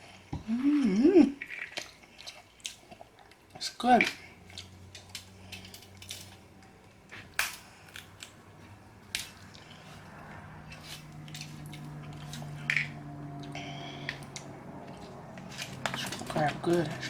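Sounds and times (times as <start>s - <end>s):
crab shells cracking: 1.4s - 17.0s.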